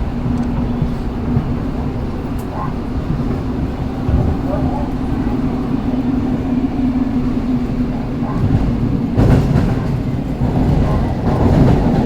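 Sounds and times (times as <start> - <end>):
subway train wheels rumbling on track: 0.0 - 12.0.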